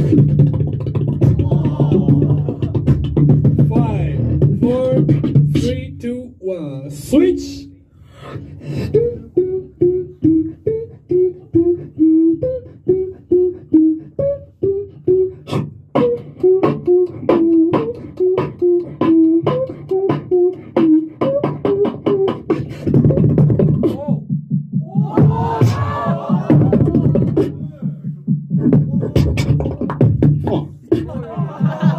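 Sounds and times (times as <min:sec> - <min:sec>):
beatboxing into microphone: 0:00.0 - 0:31.9.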